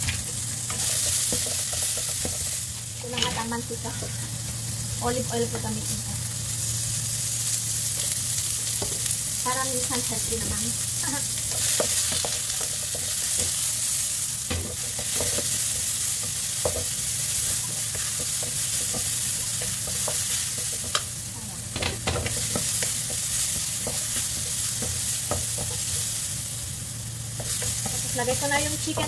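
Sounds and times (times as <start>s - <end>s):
onion and garlic sizzling in oil: 0.0s - 29.0s.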